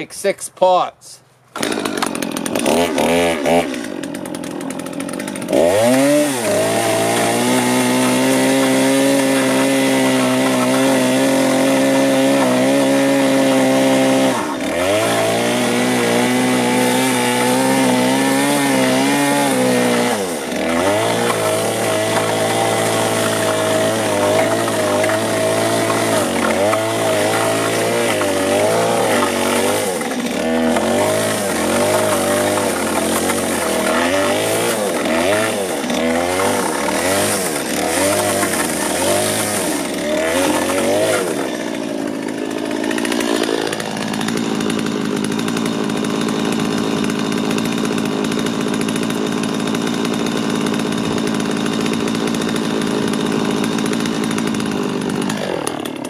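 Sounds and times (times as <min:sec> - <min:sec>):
power tool brushing wood: 0:01.6 - 0:56.0.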